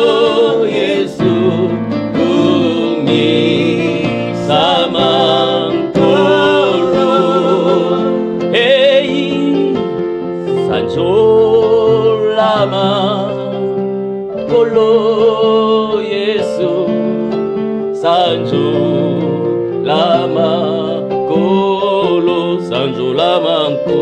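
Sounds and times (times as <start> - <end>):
man singing with vibrato: 0.0 - 13.7, 14.4 - 24.0
electronic keyboard chords: 0.0 - 24.0.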